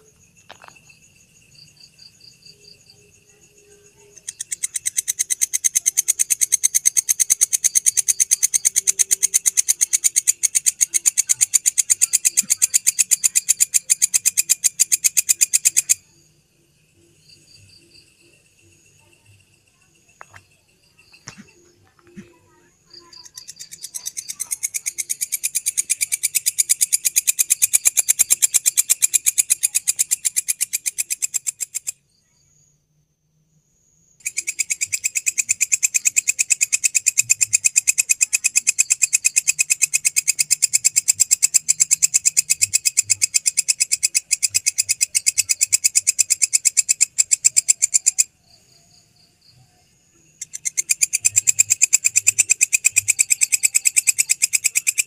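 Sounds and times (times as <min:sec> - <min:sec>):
grasshopper trilling: 0:00.0 - 0:16.2, 0:17.2 - 0:32.0, 0:34.2 - 0:55.0.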